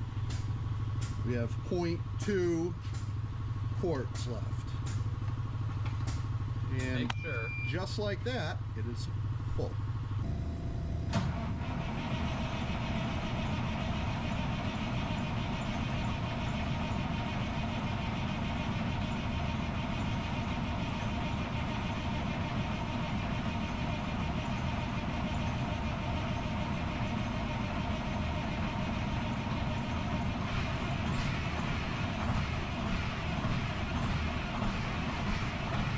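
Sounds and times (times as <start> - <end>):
truck diesel engine idling: 0.0 - 35.9.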